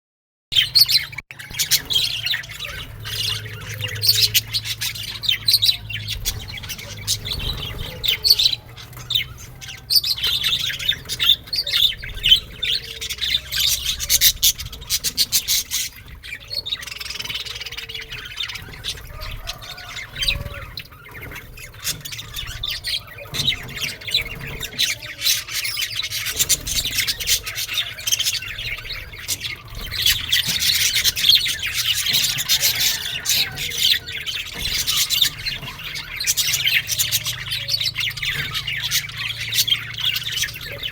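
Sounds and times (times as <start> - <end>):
birds chirping and squawking: 0.5 - 40.9.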